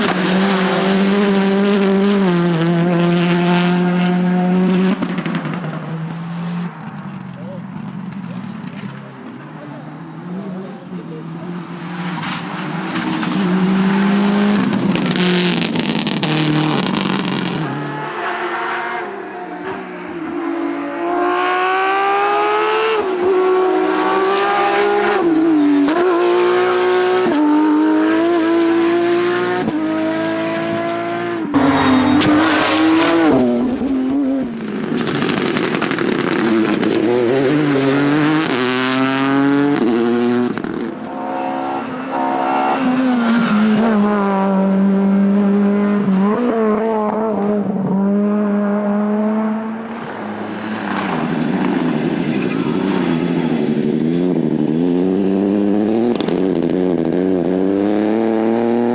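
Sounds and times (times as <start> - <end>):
rally car engines revving past: 0.0 - 58.9.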